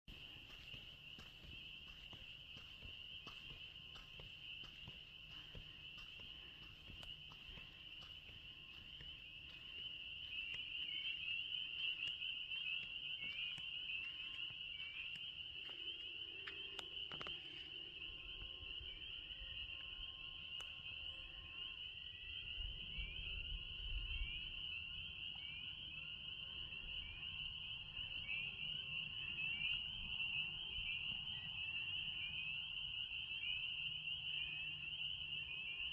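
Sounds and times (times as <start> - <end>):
chorus of chirping animals: 0.1 - 35.9.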